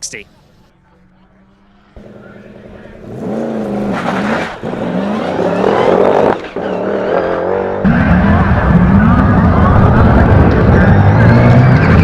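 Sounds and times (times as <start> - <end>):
race car engine revving: 0.8 - 12.0.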